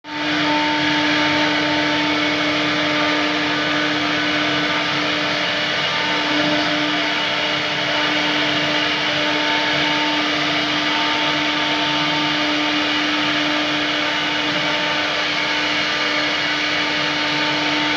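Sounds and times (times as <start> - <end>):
wood router whining and cutting: 0.0 - 17.9.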